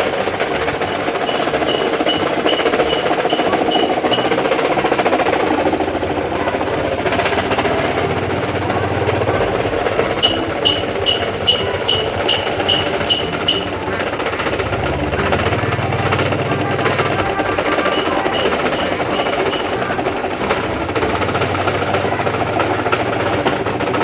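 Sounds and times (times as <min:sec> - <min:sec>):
sharp ticking: 0:00.0 - 0:24.0
table fan rattling drone: 0:00.0 - 0:24.0.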